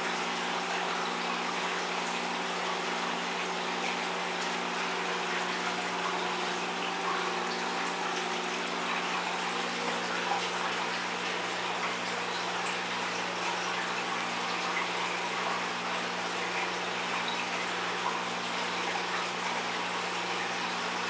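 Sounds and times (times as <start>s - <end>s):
low pump hum: 0.0s - 21.0s
water rushing and trickling: 0.0s - 21.0s.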